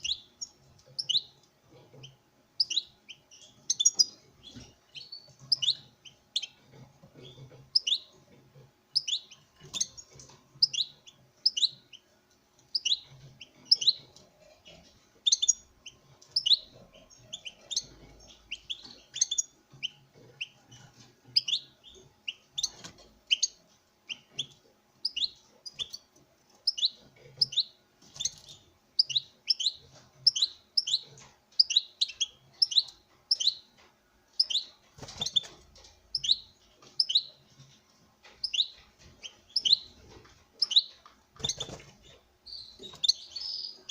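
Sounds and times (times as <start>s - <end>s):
goldfinch chirping: 0.0s - 1.4s, 2.0s - 6.6s, 7.2s - 8.2s, 8.9s - 12.0s, 12.6s - 43.9s.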